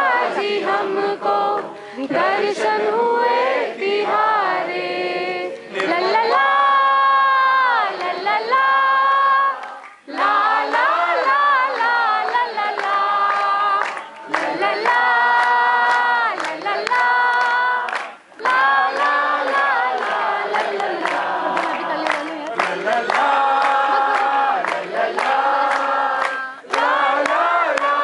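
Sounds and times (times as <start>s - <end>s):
group singing devotional song: 0.0s - 28.0s.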